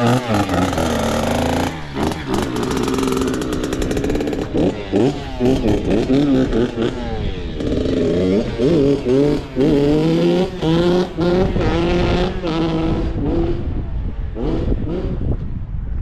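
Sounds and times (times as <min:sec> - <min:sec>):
dirt bike engine revving: 0:00.0 - 0:15.4.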